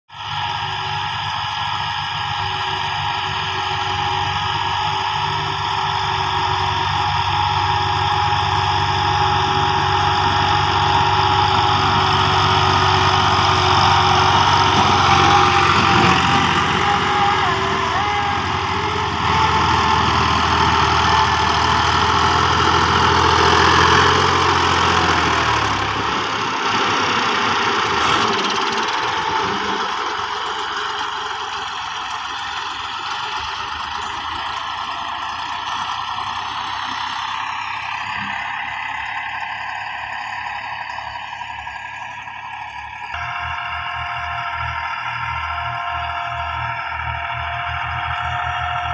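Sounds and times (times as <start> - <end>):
tractor engines under load: 0.1 - 48.9.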